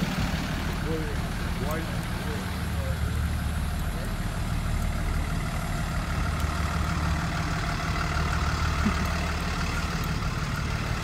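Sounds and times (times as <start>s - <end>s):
bus engines idling: 0.0s - 11.0s.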